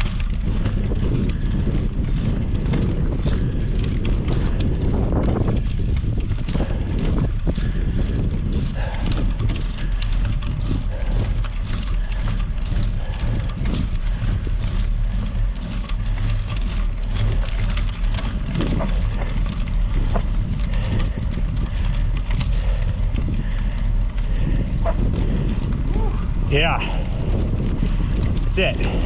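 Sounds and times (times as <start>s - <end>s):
bicycle tyres rolling on gravel: 0.0s - 29.0s
wind buffeting microphone: 0.0s - 29.0s.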